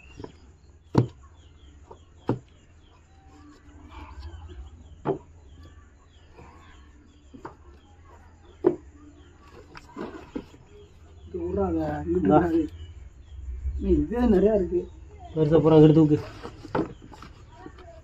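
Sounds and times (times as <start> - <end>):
faint birds calling: 0.0 - 18.0.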